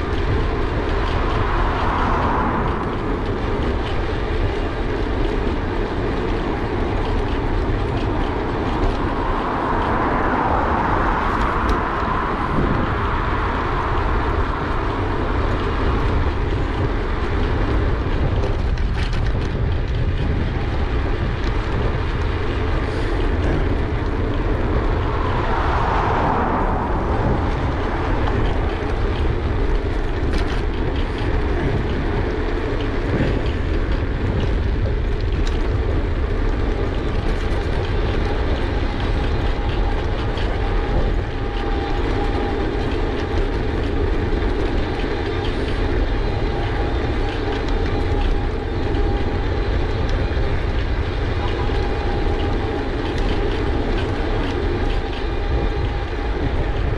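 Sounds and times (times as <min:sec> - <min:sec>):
bike rolling noise: 0:00.0 - 0:56.9
wind buffeting microphone: 0:00.0 - 0:56.9.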